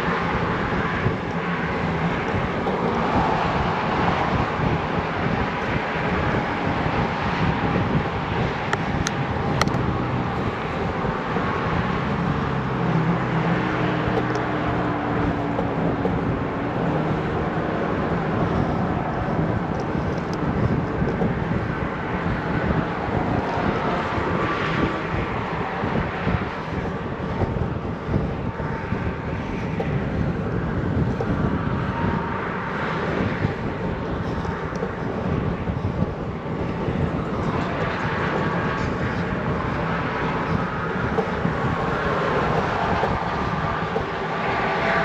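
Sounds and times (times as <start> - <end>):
road traffic: 0.0 - 45.0
wind buffeting microphone: 0.0 - 45.0.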